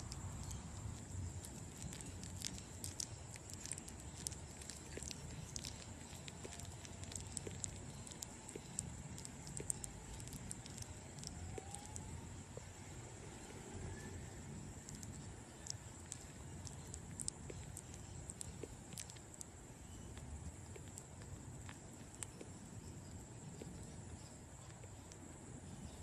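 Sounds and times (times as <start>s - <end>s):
bat chewing wet clicks: 0.0s - 26.0s
low background hiss: 0.0s - 26.0s.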